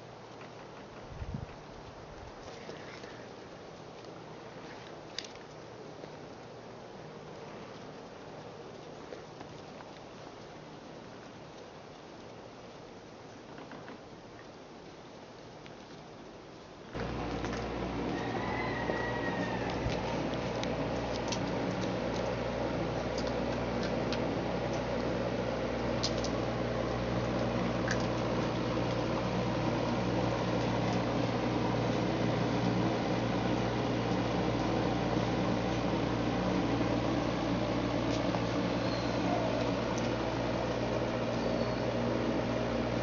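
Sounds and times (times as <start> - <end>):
mechanical hum: 0.0 - 14.2, 16.4 - 43.0.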